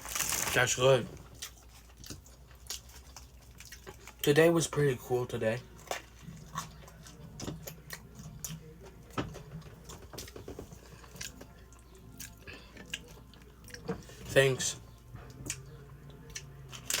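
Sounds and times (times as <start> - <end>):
faint low hum: 0.0 - 17.0
person chewing food: 1.1 - 4.3, 5.6 - 17.0.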